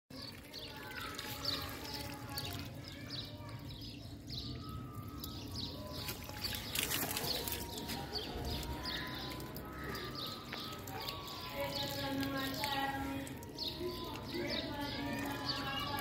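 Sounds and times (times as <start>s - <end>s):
hose water pouring into pot: 0.1s - 16.0s
bird chirping: 0.2s - 16.0s.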